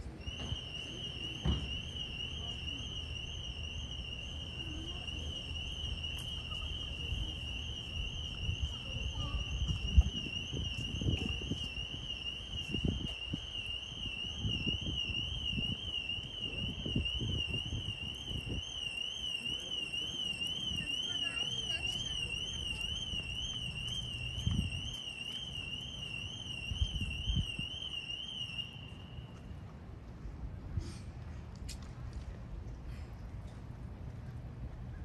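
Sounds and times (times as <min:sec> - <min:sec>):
electronic alarm warbling: 0:00.3 - 0:29.2.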